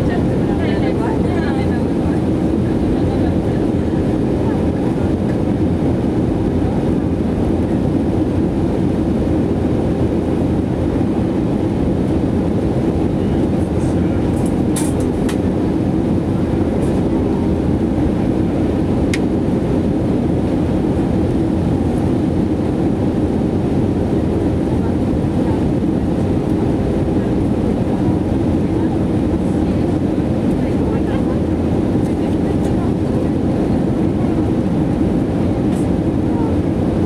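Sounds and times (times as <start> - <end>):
airplane cabin roar: 0.0 - 37.0.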